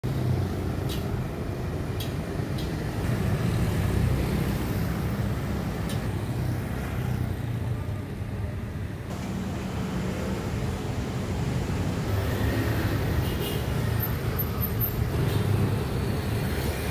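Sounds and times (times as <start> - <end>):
road traffic hum: 0.0 - 16.9.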